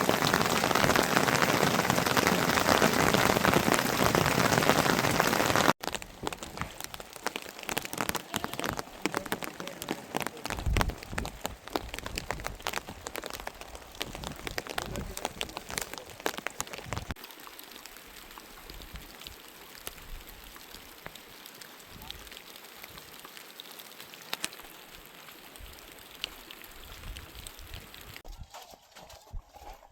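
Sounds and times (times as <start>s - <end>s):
heavy downpour: 0.0s - 28.2s
raindrops pattering: 0.0s - 29.9s.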